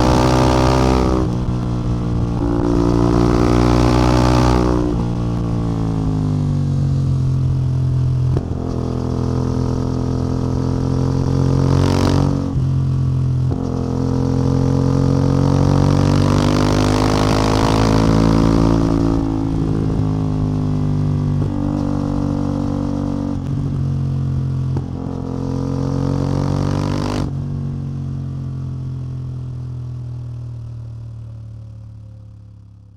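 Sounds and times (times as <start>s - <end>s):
motorcycle engine and exhaust: 0.0s - 32.9s.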